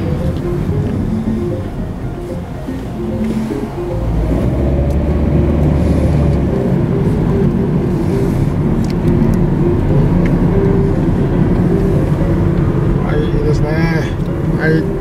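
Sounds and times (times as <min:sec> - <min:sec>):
car tyre and engine rumble: 0:00.0 - 0:15.0.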